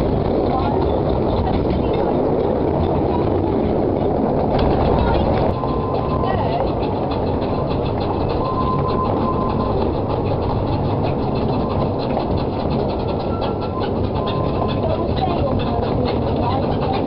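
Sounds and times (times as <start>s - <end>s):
train rumbling on track: 0.0s - 17.0s
wheels clicking on rails: 0.0s - 17.0s.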